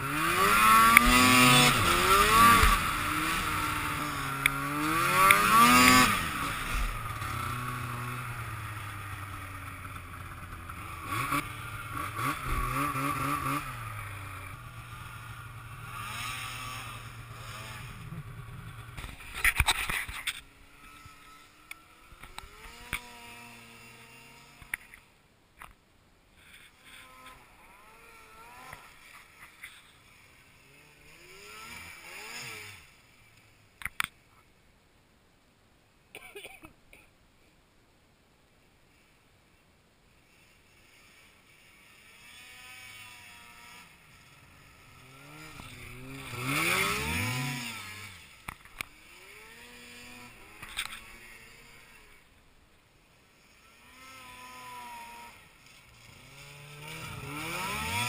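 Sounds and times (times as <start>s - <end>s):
snowmobile engine revving: 0.0s - 25.0s, 26.4s - 33.5s, 40.2s - 52.4s, 53.1s - 58.0s
distant snowmobile revving: 0.0s - 25.1s, 26.4s - 34.2s, 40.2s - 52.4s, 53.0s - 58.0s.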